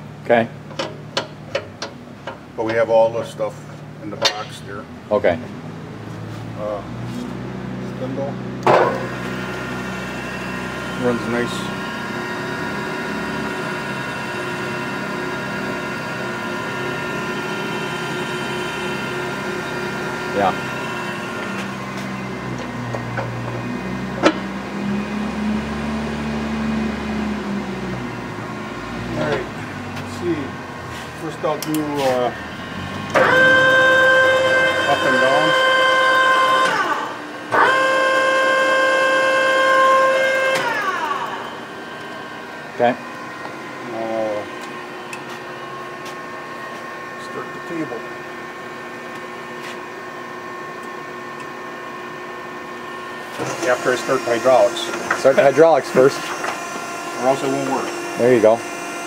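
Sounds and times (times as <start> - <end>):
grinder spindle humming: 8.9 - 59.0.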